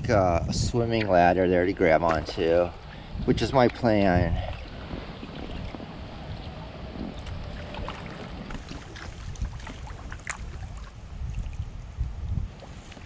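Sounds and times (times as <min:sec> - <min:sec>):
wind rumble on microphone: 0:00.0 - 0:13.0
paddle splashing in water: 0:00.9 - 0:11.8, 0:12.5 - 0:13.0.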